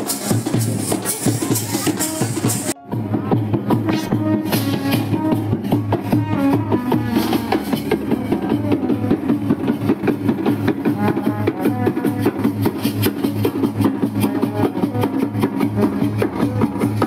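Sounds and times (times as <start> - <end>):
music with quick drum beat: 0.0 - 17.0.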